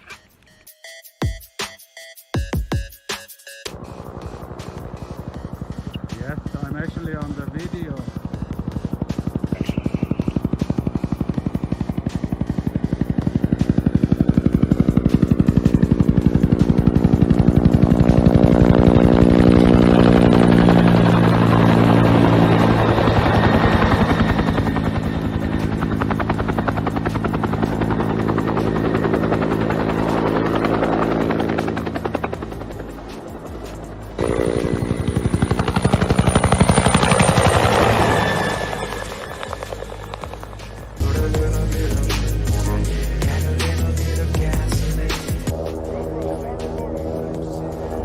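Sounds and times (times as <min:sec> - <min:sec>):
helicopter rotor blades chopping: 0:03.7 - 0:48.0.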